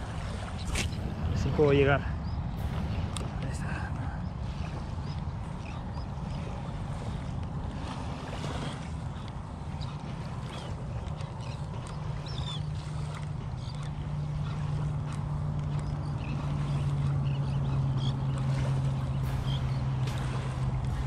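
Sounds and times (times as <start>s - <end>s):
distant motorboat engine drone: 0.0s - 21.0s
seabirds calling: 0.0s - 21.0s.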